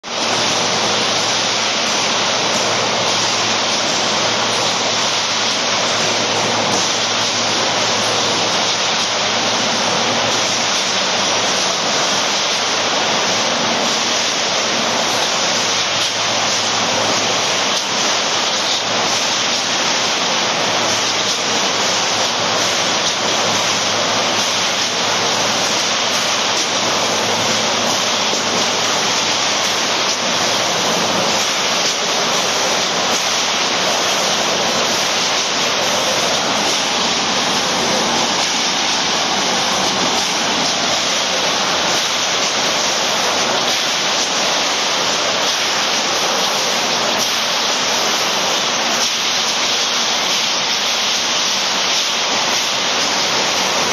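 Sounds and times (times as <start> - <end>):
rushing machinery noise: 0.0 - 53.9.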